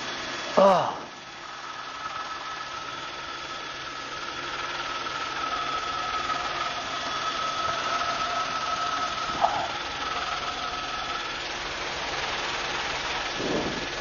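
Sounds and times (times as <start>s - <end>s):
helicopter engine and rotor drone: 0.0s - 14.0s
high whine: 0.0s - 14.0s.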